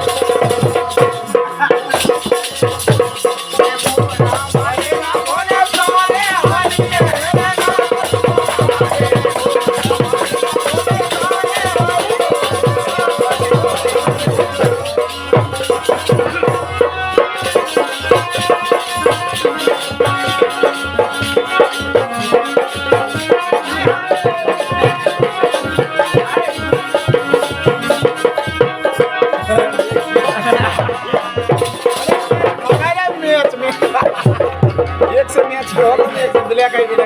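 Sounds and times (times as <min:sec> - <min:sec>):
fast drum rhythm: 0:00.0 - 0:37.0
jingling shaken percussion: 0:00.0 - 0:37.0
sustained folk melody: 0:00.0 - 0:37.0.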